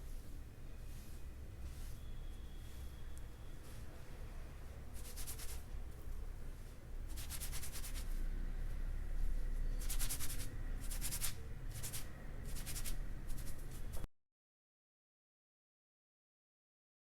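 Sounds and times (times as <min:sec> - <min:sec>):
faint low hum: 0:00.0 - 0:14.1.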